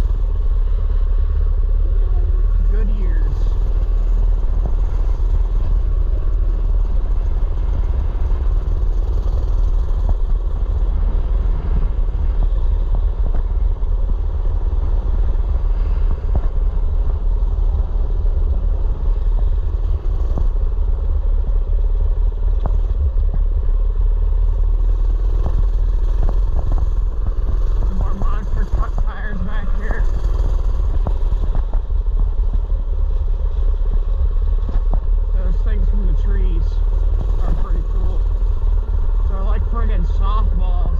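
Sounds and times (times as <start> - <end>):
low rumble: 0.0 - 40.9
mini bike engine running: 0.0 - 40.9.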